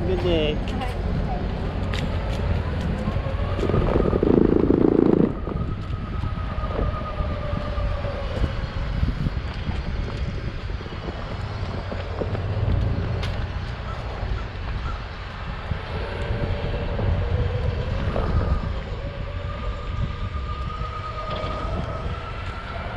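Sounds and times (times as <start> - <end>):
wheels rumbling on pavement: 0.0 - 22.9.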